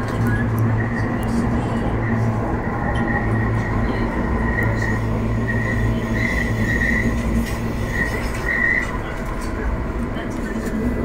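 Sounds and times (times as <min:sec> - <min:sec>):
wheels squealing on rail: 0:00.0 - 0:09.6
tram wheels rumbling: 0:00.0 - 0:11.0.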